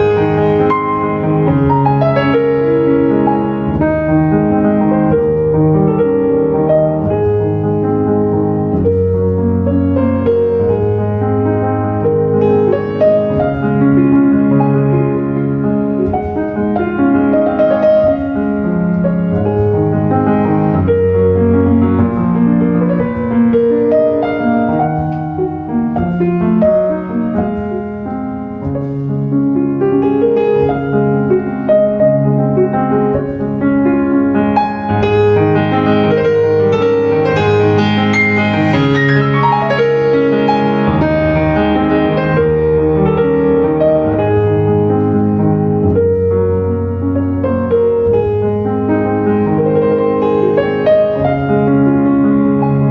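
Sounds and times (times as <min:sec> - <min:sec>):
slow piano chords: 0:00.0 - 0:52.9.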